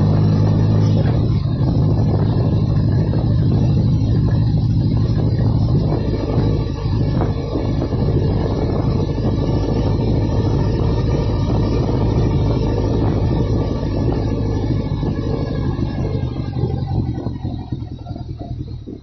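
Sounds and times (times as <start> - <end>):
motorcycle engine droning: 0.0 - 19.0.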